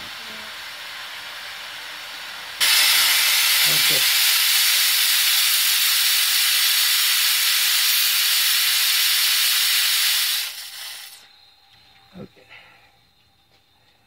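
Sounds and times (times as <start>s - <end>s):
spray nozzle hissing: 0.0s - 11.3s.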